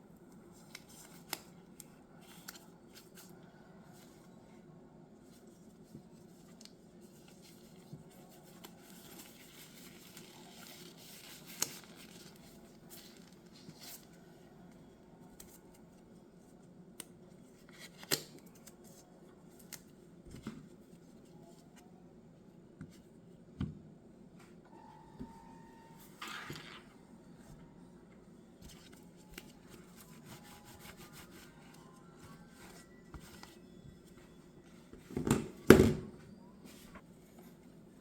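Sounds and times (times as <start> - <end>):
low room hum: 0.0 - 38.0.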